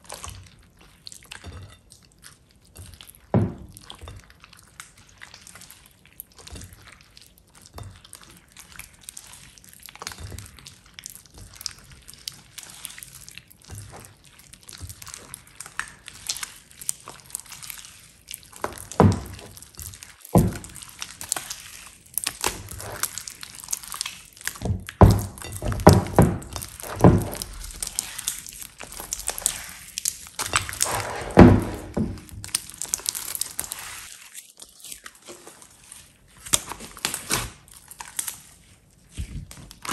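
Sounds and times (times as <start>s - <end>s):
slime squishing by hand: 2.2s - 39.9s.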